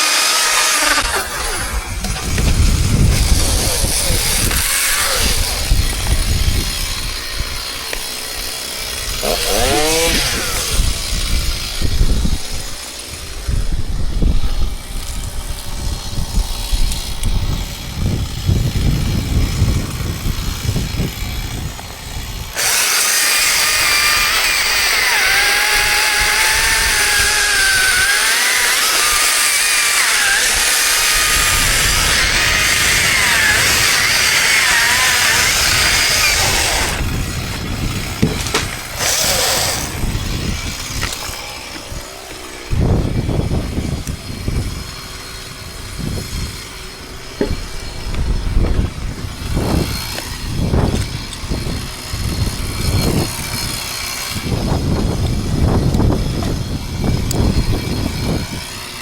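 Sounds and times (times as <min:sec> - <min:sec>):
chainsaw cutting: 0:00.0 - 0:59.0.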